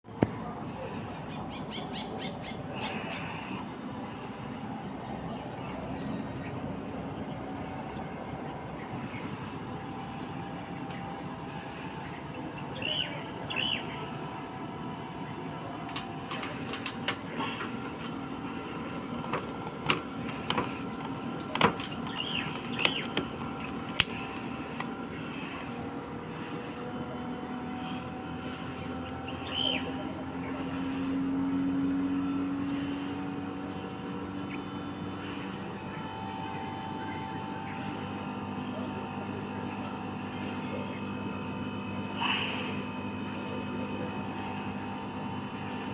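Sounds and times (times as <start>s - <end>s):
air conditioner unit humming: 0.0s - 45.9s
low hum: 0.0s - 45.9s
birds chirping: 0.1s - 45.9s.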